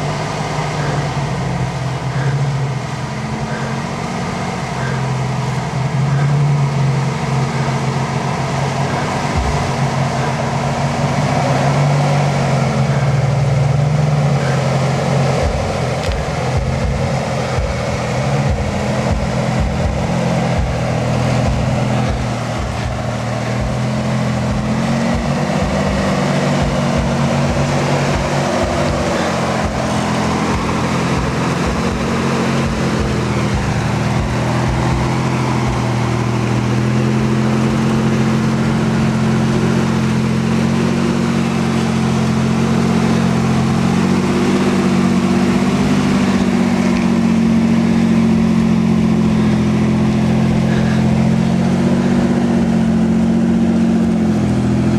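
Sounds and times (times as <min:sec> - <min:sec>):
engine running at low revs: 0:00.0 - 0:54.9
short low thumps: 0:00.0 - 0:54.9.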